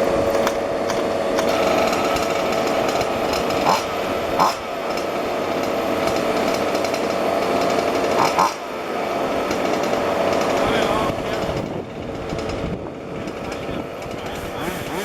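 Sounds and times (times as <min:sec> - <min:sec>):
small two-stroke engines running: 0:00.0 - 0:15.0.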